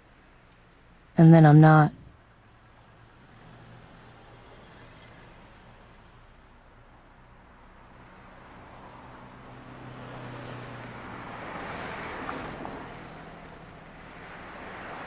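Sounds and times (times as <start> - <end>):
bus driving past: 2.2 - 15.0.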